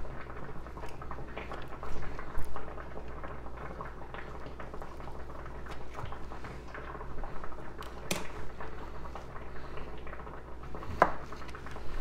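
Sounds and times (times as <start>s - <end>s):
pot boiling: 0.0s - 12.0s.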